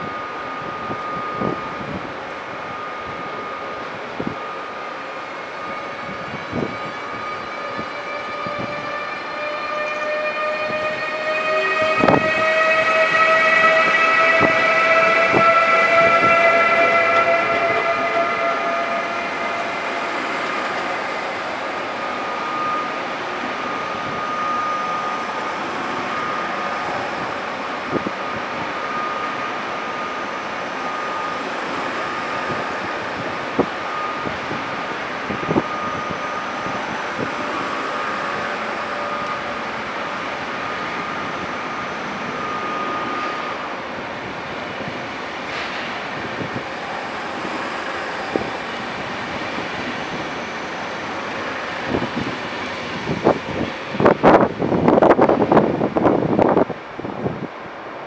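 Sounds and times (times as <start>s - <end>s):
train high whine: 0.0s - 58.0s
train running rumble: 0.0s - 58.0s.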